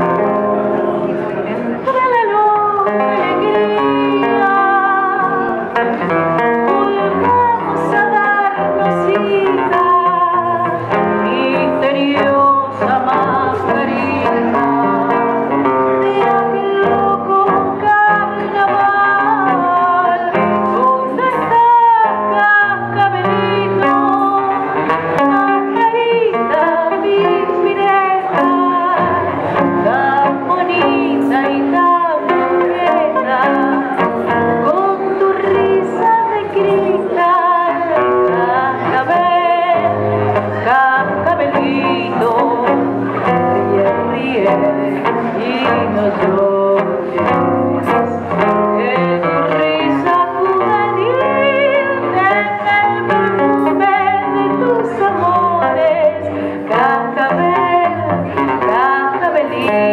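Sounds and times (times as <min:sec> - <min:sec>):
plucked acoustic guitar: 0:00.0 - 0:59.9
woman singing into a microphone: 0:00.0 - 0:59.9.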